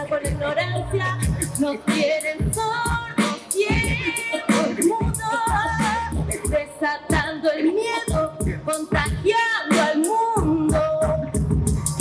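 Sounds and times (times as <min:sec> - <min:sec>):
woman singing into microphone: 0:00.0 - 0:11.4
hip-hop backing beat: 0:00.0 - 0:12.0.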